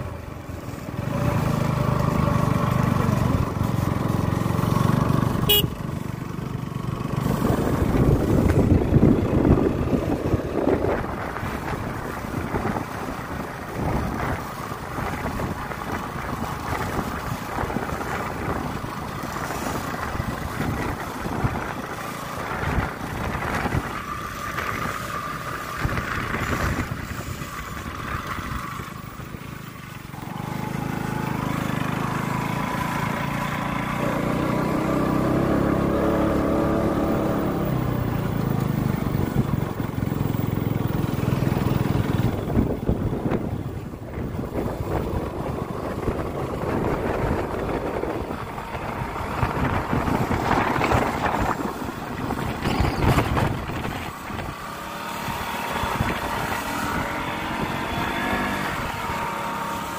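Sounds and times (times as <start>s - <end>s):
motorcycle engine drone: 0.0s - 59.9s
wind buffeting microphone: 7.1s - 29.8s, 31.7s - 59.9s.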